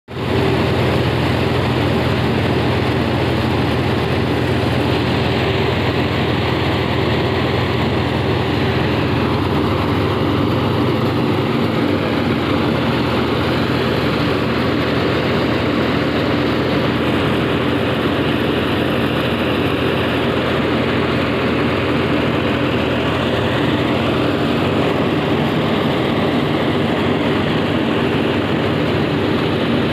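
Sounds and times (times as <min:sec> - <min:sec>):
thresher whirring and rattling: 0:00.1 - 0:29.9
tractor diesel engine drone: 0:00.1 - 0:29.9.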